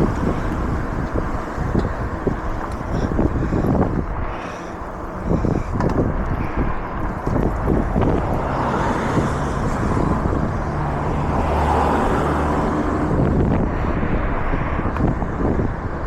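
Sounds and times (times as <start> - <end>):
road noise: 0.0 - 16.0
wind rushing over microphone: 0.0 - 16.0.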